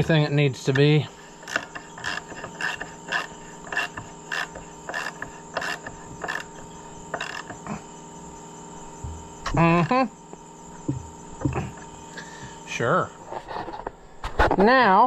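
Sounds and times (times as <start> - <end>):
faint hum and tone: 0.0 - 15.0.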